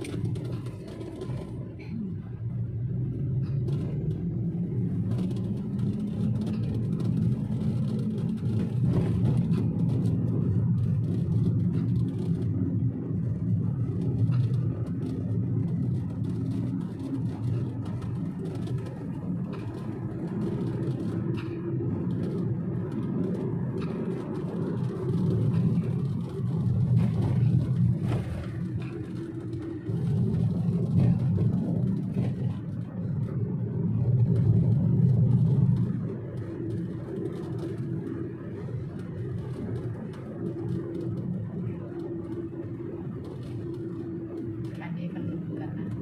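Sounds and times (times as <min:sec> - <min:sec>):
road noise: 0:00.0 - 0:46.0
vehicle engine hum: 0:00.0 - 0:46.0.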